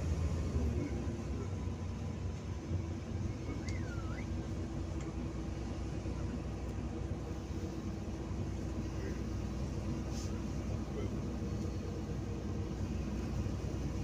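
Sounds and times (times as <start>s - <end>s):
bus engine and road drone: 0.0s - 14.0s.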